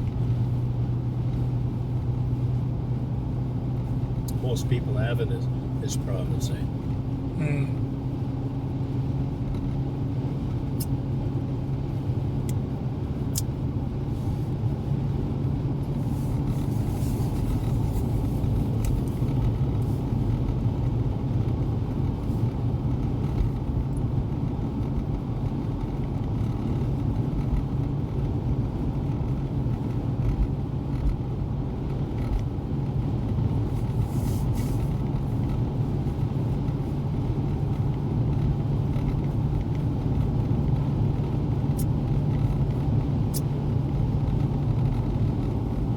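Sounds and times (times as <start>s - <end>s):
car cabin engine hum: 0.0s - 45.9s.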